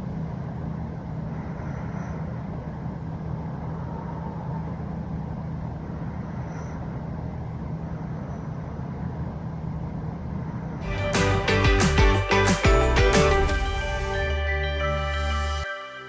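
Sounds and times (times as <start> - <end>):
road vehicle rumbling: 0.0 - 15.6.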